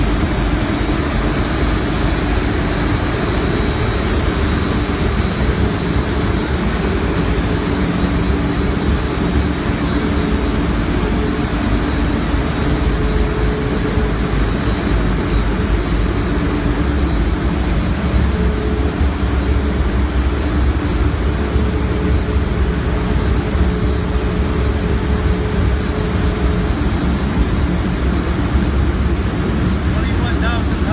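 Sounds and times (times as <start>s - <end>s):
steam boiler roaring: 0.0s - 30.9s.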